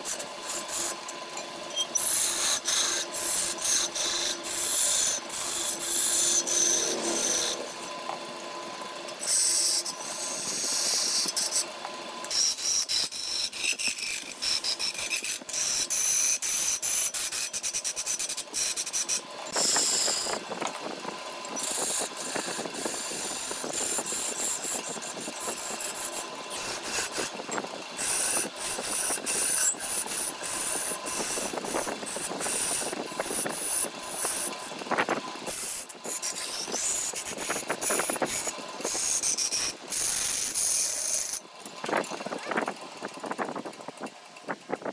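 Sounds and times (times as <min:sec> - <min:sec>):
lathe tool scraping wood: 0:00.0 - 0:43.3.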